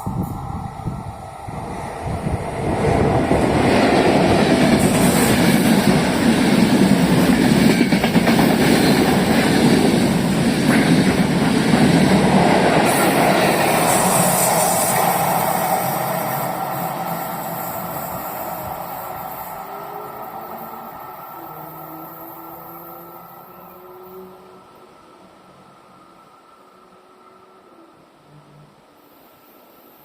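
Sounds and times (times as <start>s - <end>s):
train rumbling past on rails: 0.0s - 30.0s.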